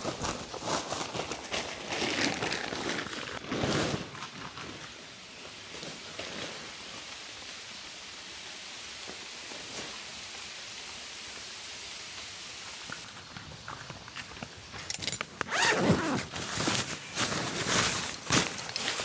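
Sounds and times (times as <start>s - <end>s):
steady outdoor hiss: 3.6s - 19.0s.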